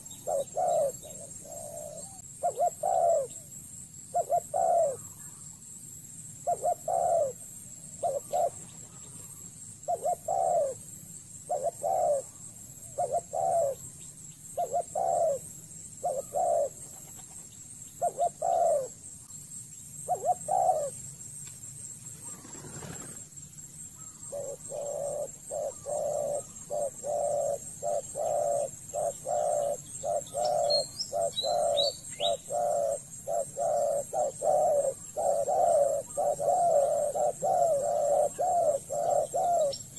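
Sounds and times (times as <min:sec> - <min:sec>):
doves cooing: 0:00.0 - 0:03.5, 0:04.1 - 0:05.4, 0:06.4 - 0:10.9, 0:11.5 - 0:13.9, 0:14.6 - 0:19.0, 0:20.1 - 0:21.0, 0:22.1 - 0:23.4, 0:24.0 - 0:39.9.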